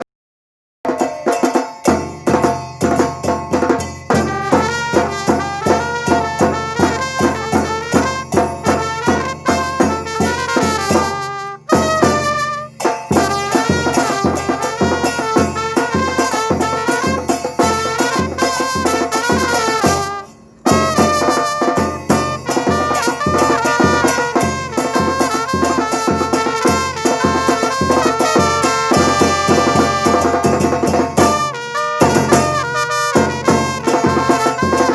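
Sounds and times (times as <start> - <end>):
steady drum beat: 0.9 - 34.9
brass melody: 2.3 - 34.9.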